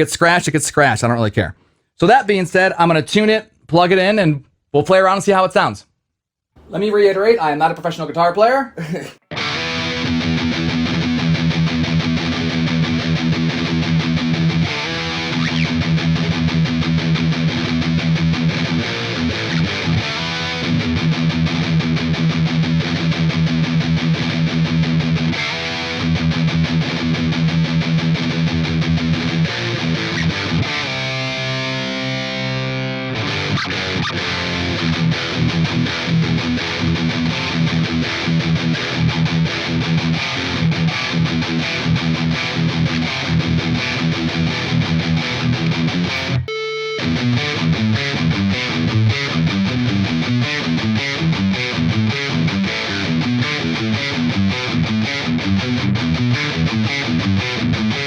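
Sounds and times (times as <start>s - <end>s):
distorted electric guitar riffing: 8.8s - 58.0s.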